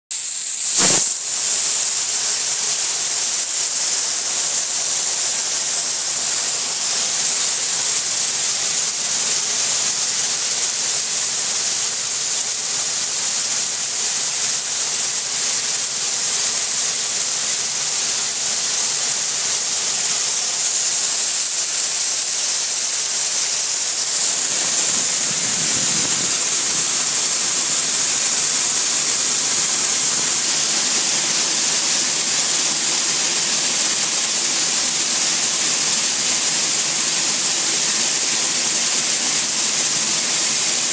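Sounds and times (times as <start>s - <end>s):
high-pressure water jets hissing: 0.1s - 40.9s.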